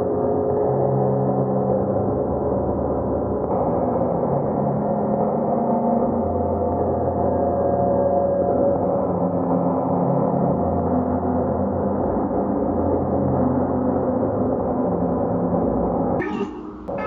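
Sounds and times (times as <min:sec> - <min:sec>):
droning noise music: 0:00.0 - 0:17.0.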